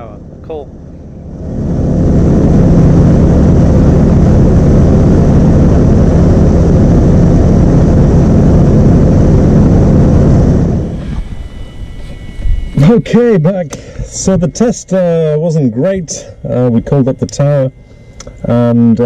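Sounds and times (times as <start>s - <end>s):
light aircraft engine and propeller: 0.0s - 19.0s.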